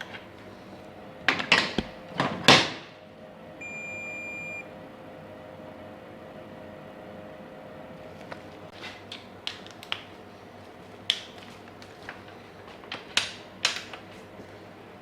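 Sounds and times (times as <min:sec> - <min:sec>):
faint workshop hum: 0:00.0 - 0:15.0.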